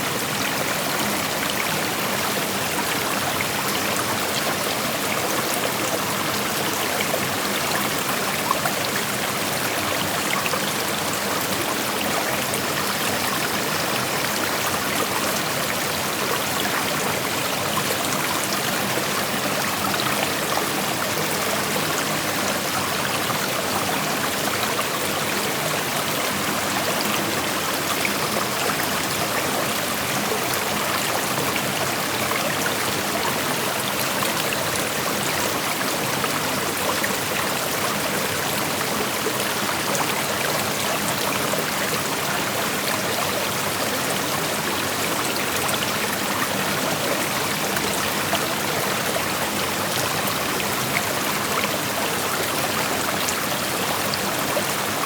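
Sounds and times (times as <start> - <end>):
creek flowing over rocks: 0.0 - 55.0
small water splashes and trickles: 0.0 - 55.0.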